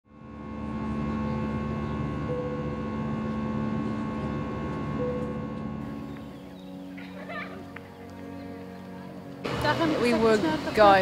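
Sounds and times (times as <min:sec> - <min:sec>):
airliner cabin engine drone: 0:00.1 - 0:11.0.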